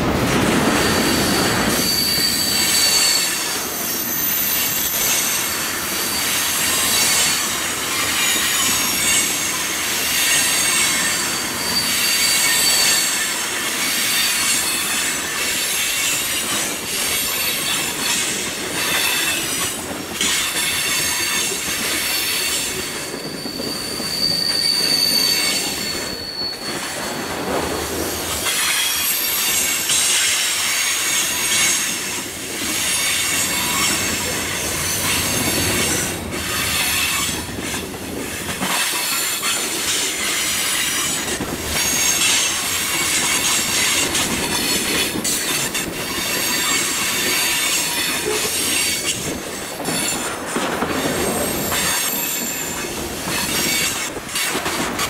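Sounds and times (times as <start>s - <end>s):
steel wheels clacking on rails: 0.0s - 55.0s
high wheel squeal: 0.6s - 37.9s, 38.7s - 49.3s.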